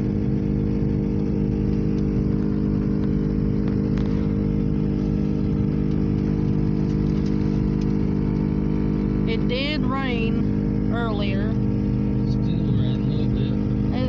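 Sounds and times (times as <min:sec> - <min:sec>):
car heater blower hum: 0:00.0 - 0:14.0
engine and road rumble: 0:00.0 - 0:14.0.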